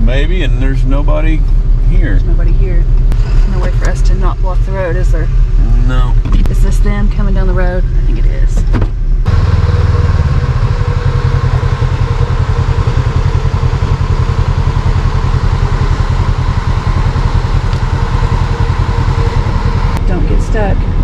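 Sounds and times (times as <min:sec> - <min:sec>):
engine rumbling: 0:00.0 - 0:21.0.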